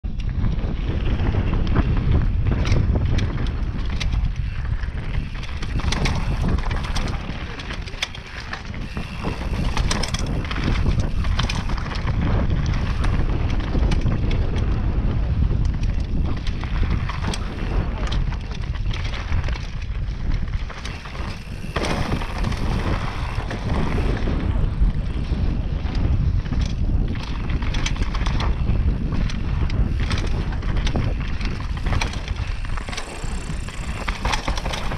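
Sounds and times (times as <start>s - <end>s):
bike clicks and rattles: 0.0s - 34.9s
wind buffeting microphone: 0.0s - 34.9s
tyres rumbling on dirt and gravel: 0.3s - 34.9s.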